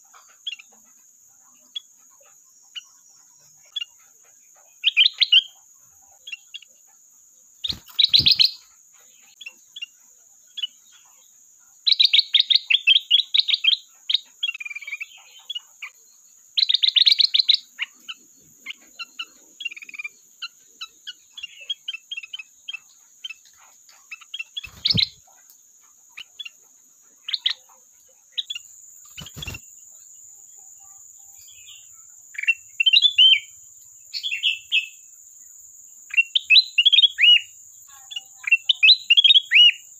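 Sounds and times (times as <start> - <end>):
bird singing rapid notes: 7.5 - 39.9.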